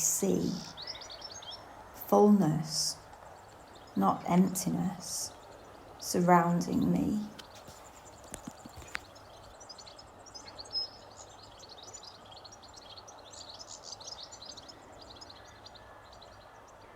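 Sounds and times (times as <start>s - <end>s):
faint outdoor hiss: 0.0s - 16.9s
small birds chirping: 0.0s - 16.9s.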